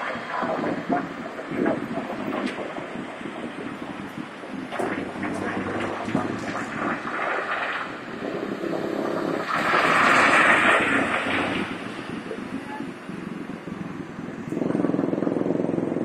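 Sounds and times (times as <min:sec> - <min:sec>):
steady engine hum: 0:00.0 - 0:16.0.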